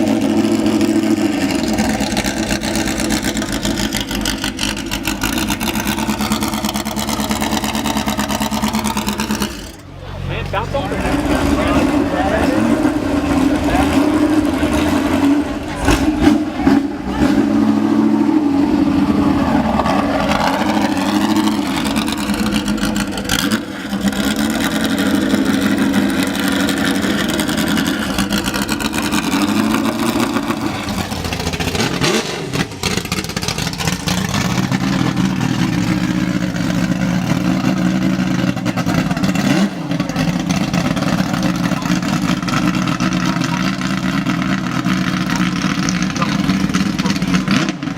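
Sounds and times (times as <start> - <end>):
car engine running: 0.0 - 47.9.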